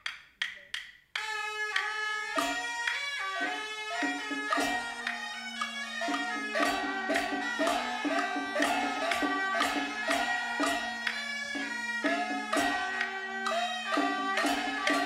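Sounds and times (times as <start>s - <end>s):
ringing percussion with bending pitch: 0.0s - 15.0s.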